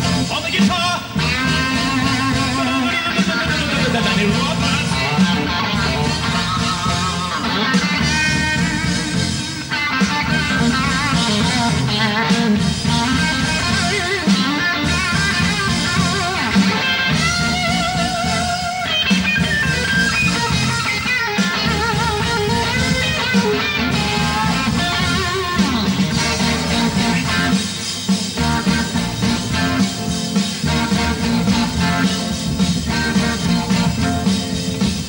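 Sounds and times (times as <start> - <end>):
bass and drums backing: 0.0 - 35.0
electric guitar solo: 1.0 - 35.0.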